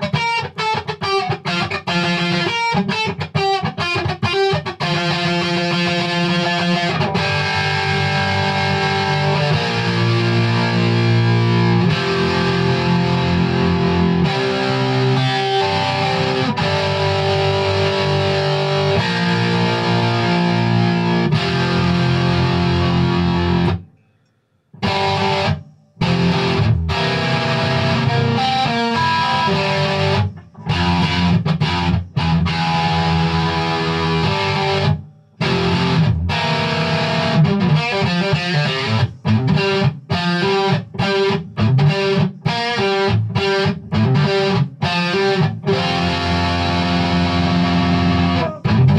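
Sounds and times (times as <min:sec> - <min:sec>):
distorted electric guitar lead: 0:00.0 - 0:23.9, 0:24.8 - 0:48.9.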